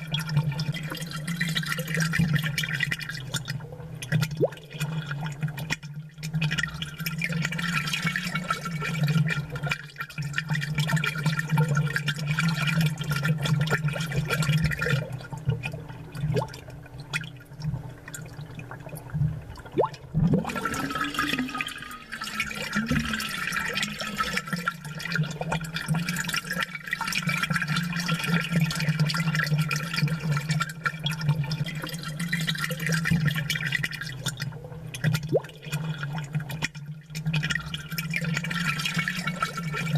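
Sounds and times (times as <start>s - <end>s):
aerator pump hum: 0.0s - 34.0s
air bubbles gurgling in water: 0.0s - 39.9s.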